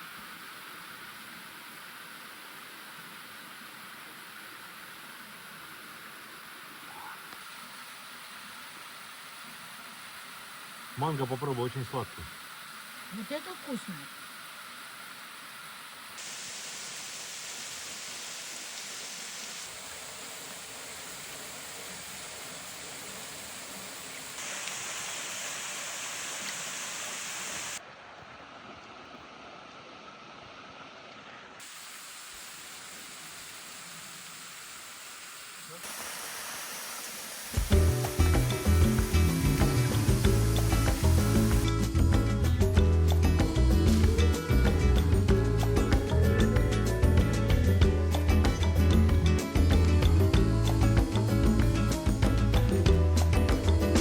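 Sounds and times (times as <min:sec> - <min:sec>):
falling water hiss: 0:00.0 - 0:28.0, 0:28.6 - 0:54.0.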